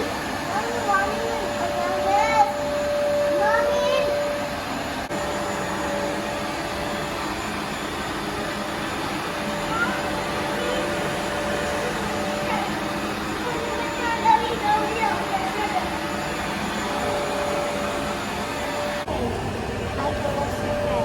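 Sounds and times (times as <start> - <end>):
carpet cleaner motor whirring: 0.0 - 21.0.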